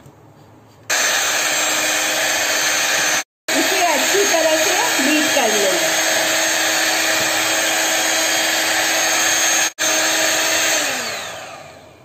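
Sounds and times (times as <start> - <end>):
electric hand mixer whining: 0.9 - 12.0.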